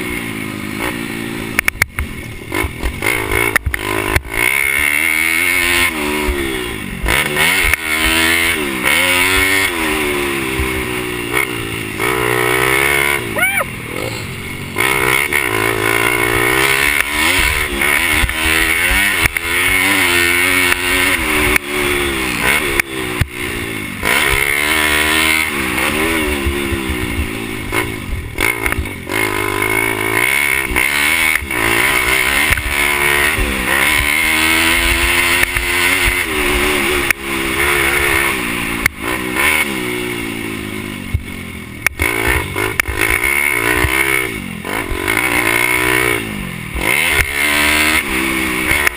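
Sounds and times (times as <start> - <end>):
pit bike engine revving: 0.0 - 48.9.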